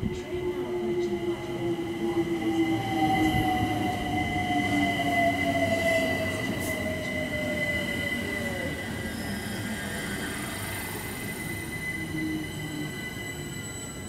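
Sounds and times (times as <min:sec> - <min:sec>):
high-pitched brake squeal: 0:00.2 - 0:14.0.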